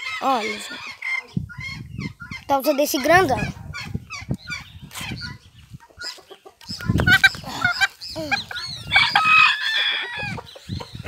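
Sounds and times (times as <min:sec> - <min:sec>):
rooster squawking clucks: 0:00.0 - 0:11.0.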